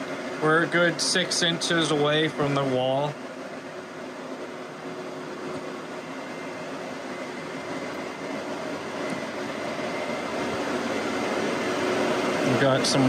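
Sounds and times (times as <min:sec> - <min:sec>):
fans rushing air: 0:00.0 - 0:13.0.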